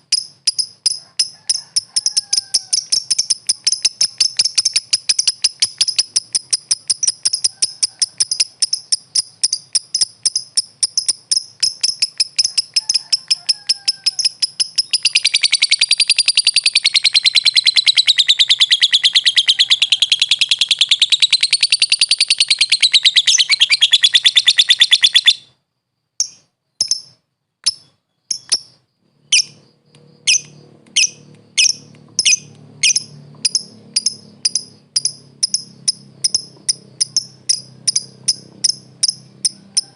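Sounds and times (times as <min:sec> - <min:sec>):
lovebird chirping and trilling: 0:00.0 - 0:25.6, 0:26.2 - 0:39.9.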